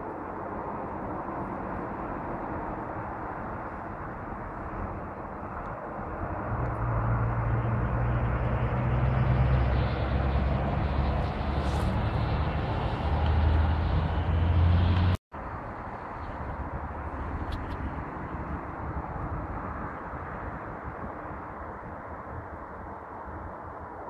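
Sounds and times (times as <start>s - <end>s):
continuous rushing noise: 0.0s - 24.0s
low engine drone: 0.0s - 24.0s.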